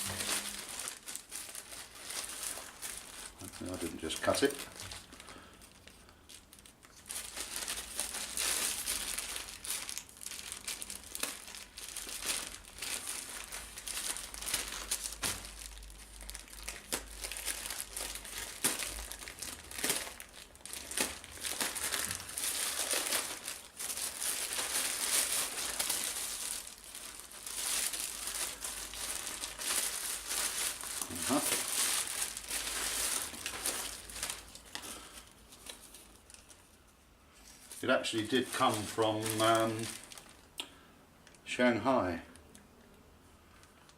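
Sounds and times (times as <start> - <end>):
packaging crinkling and rustling: 0.0 - 40.6.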